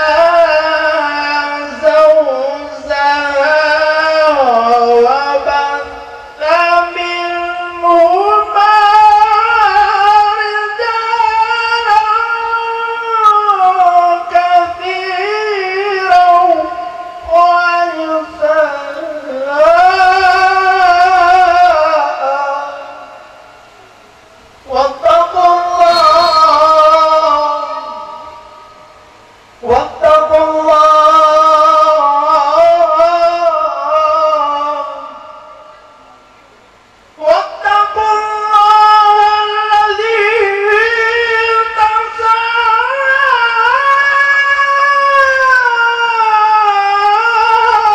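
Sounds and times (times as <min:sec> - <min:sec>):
man chanting recitation: 0:00.0 - 0:23.4, 0:24.6 - 0:28.9, 0:29.6 - 0:36.2, 0:37.2 - 0:47.9
man singing long held note: 0:00.0 - 0:36.4, 0:37.0 - 0:47.9.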